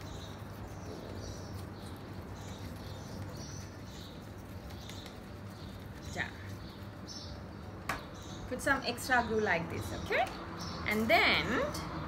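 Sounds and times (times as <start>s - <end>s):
small bird chirping: 0.0s - 11.6s
low electrical hum: 0.0s - 11.9s.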